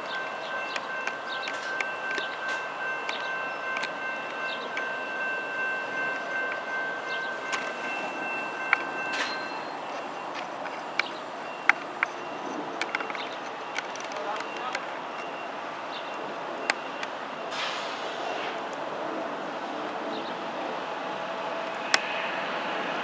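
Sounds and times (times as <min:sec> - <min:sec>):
train wheels squealing on rails: 0:00.0 - 0:18.8, 0:20.1 - 0:23.0
train rolling noise: 0:00.0 - 0:23.0.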